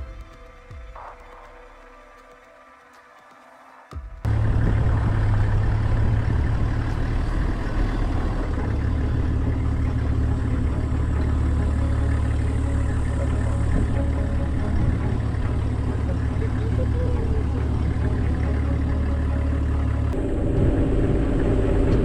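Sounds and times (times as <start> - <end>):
vehicle engine rumbling: 4.2 - 22.0
vehicle rolling on a dirt track: 4.2 - 22.0.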